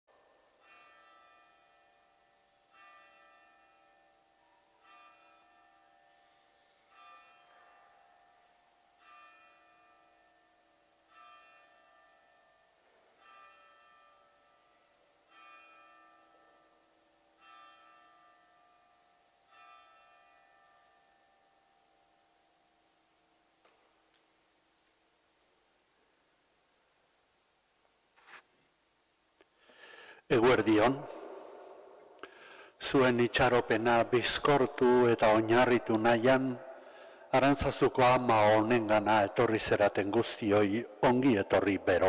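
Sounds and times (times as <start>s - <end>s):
church bell tolling: 0.1s - 23.3s, 30.3s - 42.0s.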